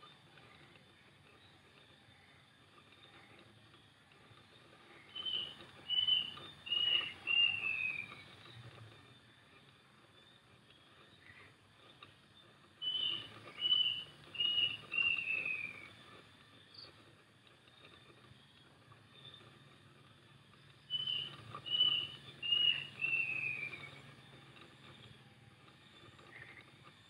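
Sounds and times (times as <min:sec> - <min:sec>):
bird singing: 0:00.0 - 0:27.0.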